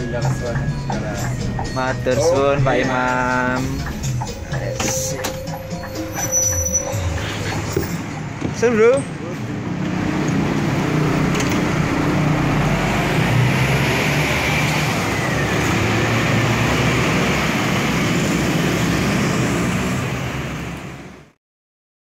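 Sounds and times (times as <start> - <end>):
bus engine running: 0.0 - 21.4
road and traffic noise: 0.0 - 21.4.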